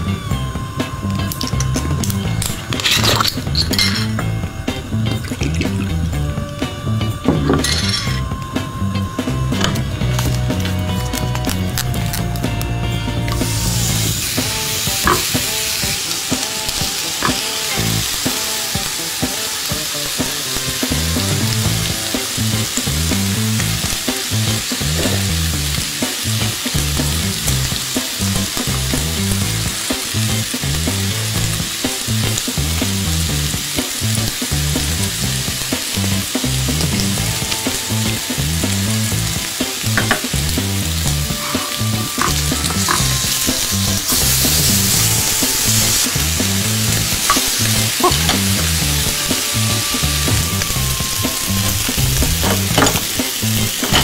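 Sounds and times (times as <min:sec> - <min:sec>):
beef sizzling on a grill: 0:00.0 - 0:54.0.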